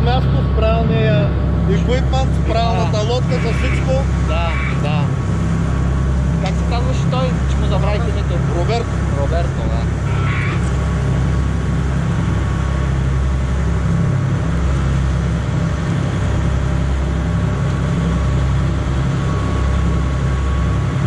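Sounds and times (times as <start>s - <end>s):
boat engine droning: 0.0s - 21.0s
faint constant hum: 0.0s - 21.0s.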